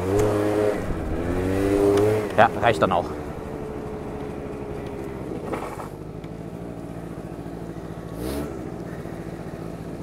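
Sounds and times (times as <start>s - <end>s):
scooter engine running: 0.0s - 10.0s.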